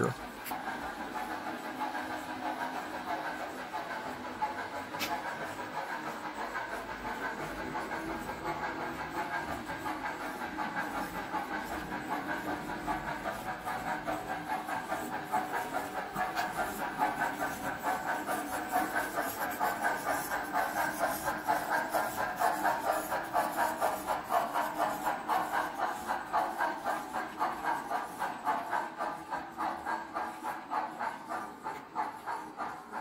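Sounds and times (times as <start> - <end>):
model steam locomotive chuffing: 0.0 - 33.0
steam hiss: 0.4 - 33.0.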